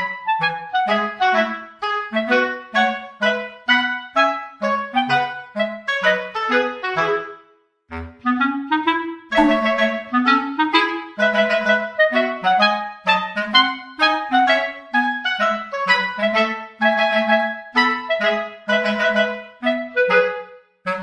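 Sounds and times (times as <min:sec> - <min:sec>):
bouncy clarinet tune: 0:00.0 - 0:21.0.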